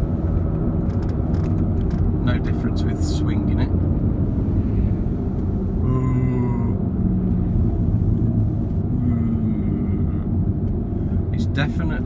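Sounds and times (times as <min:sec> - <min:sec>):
low hum and rumble from wheel: 0:00.0 - 0:12.0.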